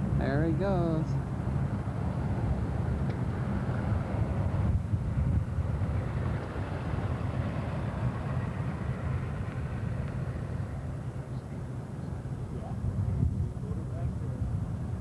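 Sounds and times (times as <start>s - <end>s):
distant aircraft engines rumbling: 0.0s - 15.0s.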